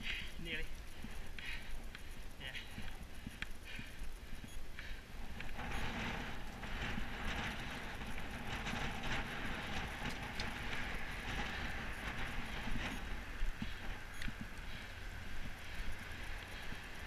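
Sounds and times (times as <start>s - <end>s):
bicycle tyre noise on tarmac: 0.0s - 17.0s
wind rushing over camera: 0.0s - 17.0s.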